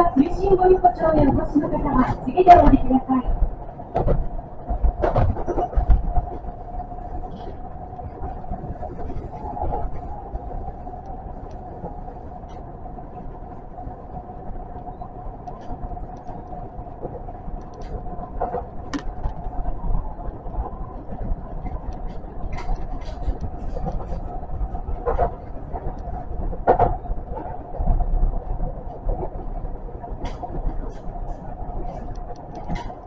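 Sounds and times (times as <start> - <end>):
train rumbling on track: 0.0 - 33.0
train whine: 0.0 - 33.0.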